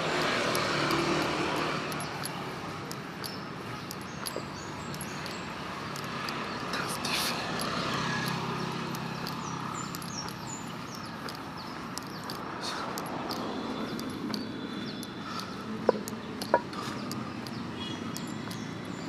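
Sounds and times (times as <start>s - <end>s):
passing traffic hum: 0.0s - 19.0s
sharp clicks: 0.0s - 19.0s
small birds chirping: 0.0s - 19.0s.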